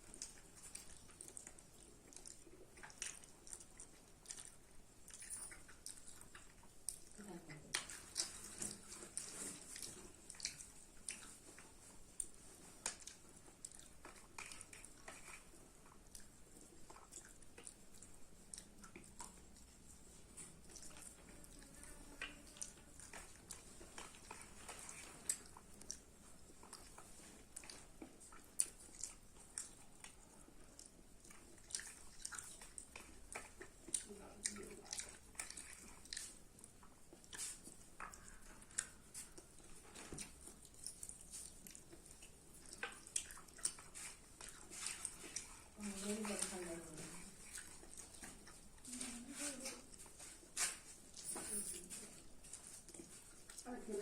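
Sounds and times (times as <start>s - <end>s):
wet mouth clicks and smacks: 0.0s - 21.6s, 22.2s - 48.8s
person chewing food: 0.0s - 54.0s.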